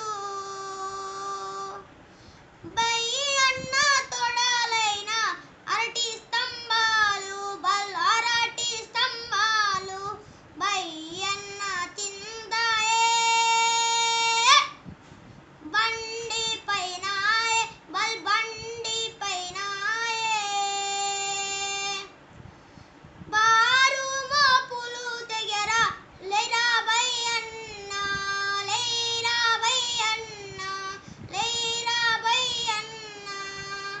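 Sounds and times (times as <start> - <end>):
boy singing unaccompanied: 0.0 - 1.9, 2.6 - 14.8, 15.6 - 22.2, 23.3 - 34.0.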